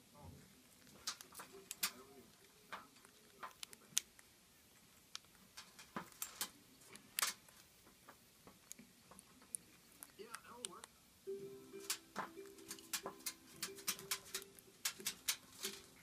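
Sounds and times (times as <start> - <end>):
bird claws and beak tapping: 0.8 - 4.3, 5.0 - 10.9, 11.8 - 16.0.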